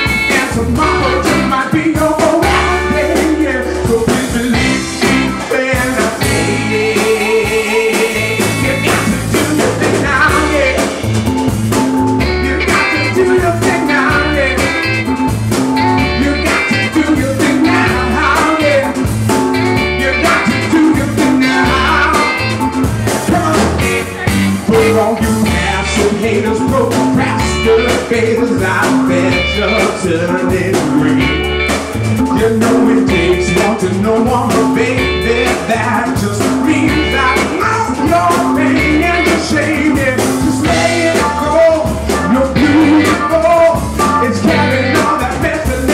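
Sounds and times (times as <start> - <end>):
man singing: 0.0 - 45.9
soul band playing: 0.0 - 45.9.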